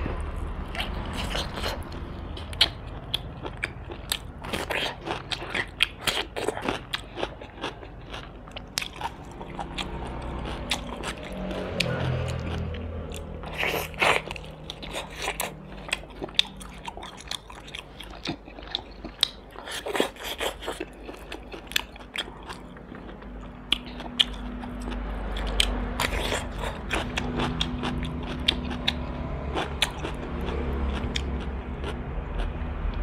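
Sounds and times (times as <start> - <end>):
chewing and crunching: 0.0 - 33.0.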